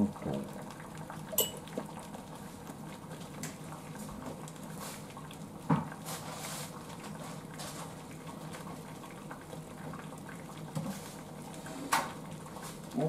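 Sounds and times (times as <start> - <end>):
water boiling in saucepan: 0.0 - 13.0.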